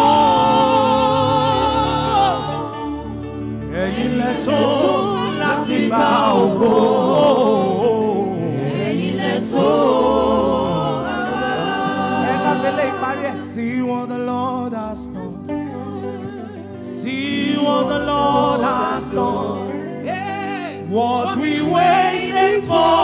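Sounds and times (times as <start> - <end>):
vocal group singing gospel song: 0.0 - 23.0.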